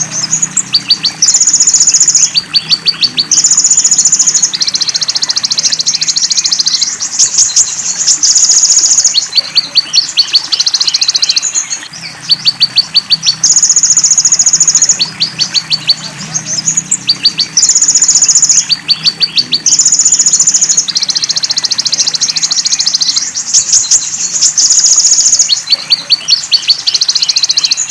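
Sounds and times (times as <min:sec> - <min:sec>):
faint murmur of water: 0:00.0 - 0:27.9
high buzzy bird trills: 0:00.0 - 0:27.9
sharp bird ticks: 0:00.0 - 0:27.9.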